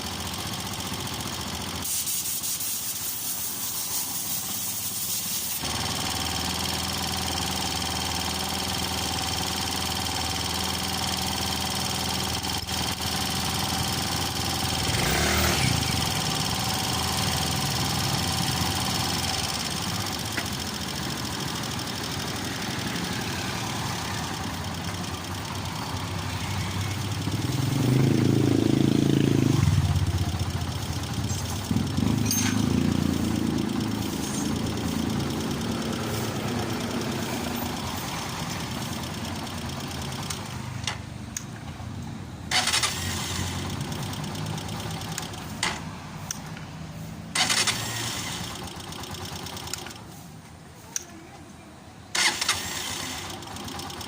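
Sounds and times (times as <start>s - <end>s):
motorcycle engine revving: 0.0s - 40.9s, 42.5s - 45.9s, 47.3s - 50.0s, 52.1s - 54.0s.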